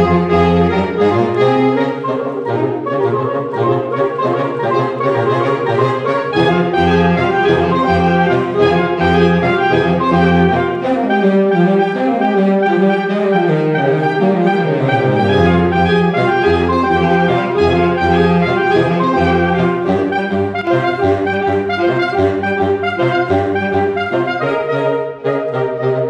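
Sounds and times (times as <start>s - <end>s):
saxophone quartet playing: 0.0s - 26.0s.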